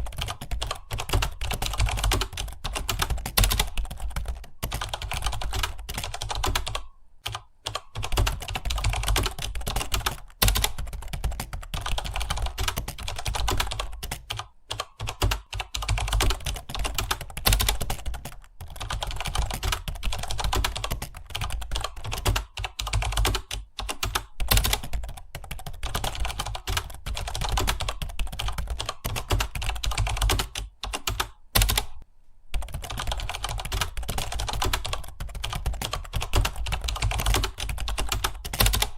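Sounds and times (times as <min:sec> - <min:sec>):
typing on computer keyboard: 0:00.0 - 0:32.0, 0:32.6 - 0:38.9.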